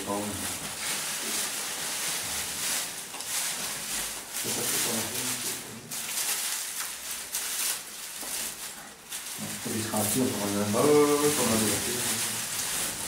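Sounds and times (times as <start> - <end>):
straw and cloth rustling: 0.0 - 13.0.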